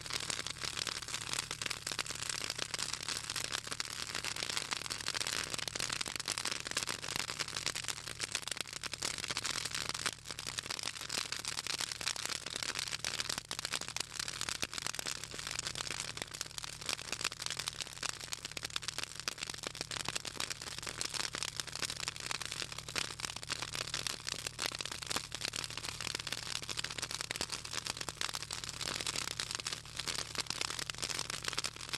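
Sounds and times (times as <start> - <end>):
fire crackling and popping: 0.0 - 31.9.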